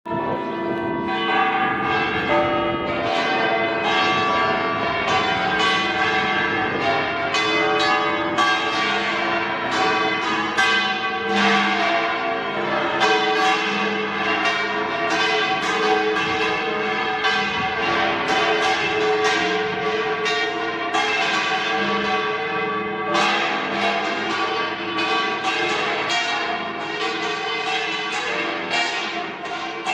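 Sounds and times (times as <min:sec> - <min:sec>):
church bells ringing: 0:00.0 - 0:29.9.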